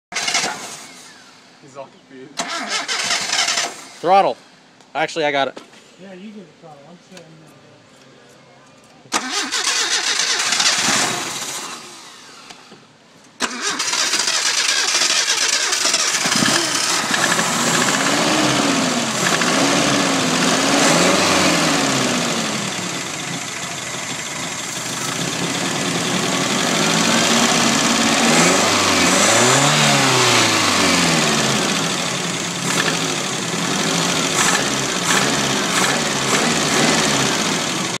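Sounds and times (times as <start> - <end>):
engine revving: 0.1 - 1.4, 2.4 - 4.0, 9.2 - 12.4, 13.4 - 38.0.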